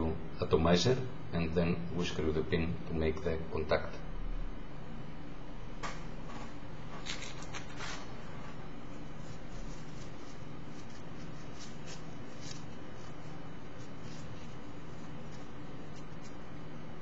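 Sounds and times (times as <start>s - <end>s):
low electrical hum and hiss: 0.0s - 17.0s.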